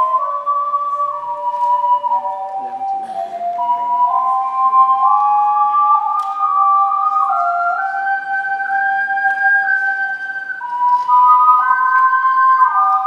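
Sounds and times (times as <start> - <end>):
ocarinas playing in harmony: 0.0 - 13.0.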